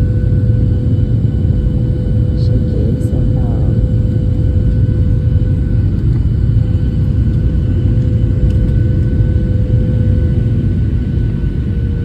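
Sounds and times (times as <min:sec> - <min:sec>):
steady hum: 0:00.0 - 0:10.6
airliner engine rumble: 0:00.0 - 0:12.0.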